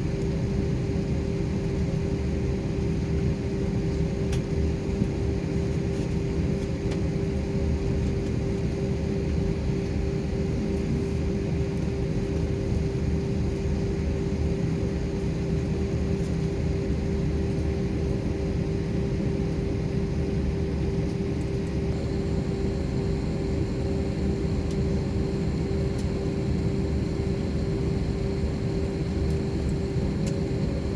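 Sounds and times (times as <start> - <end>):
airliner engine drone: 0.0 - 30.9.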